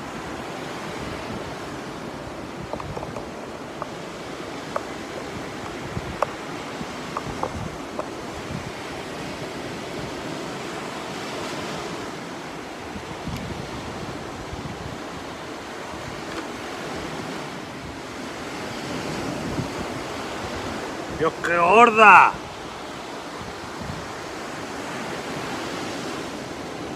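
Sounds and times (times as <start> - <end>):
wind on microphone: 0.0 - 21.5, 22.3 - 26.9
surf breaking on shore: 0.0 - 26.9.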